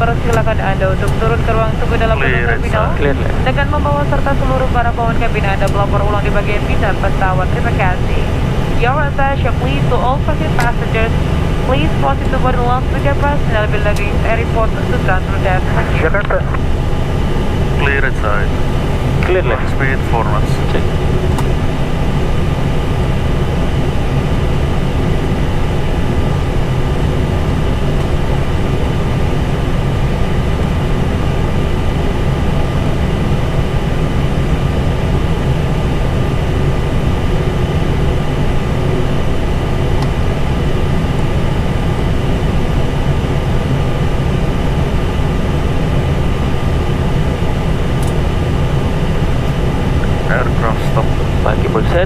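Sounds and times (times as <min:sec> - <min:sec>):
faint steady tones: 0:00.0 - 0:52.0
low engine rumble: 0:00.0 - 0:52.0.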